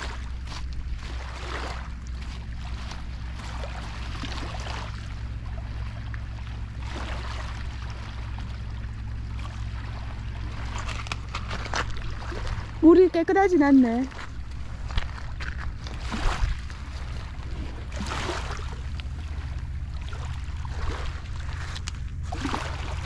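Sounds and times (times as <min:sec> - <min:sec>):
steady low hum: 0:00.0 - 0:23.0
waves lapping on pebbles: 0:00.0 - 0:23.0.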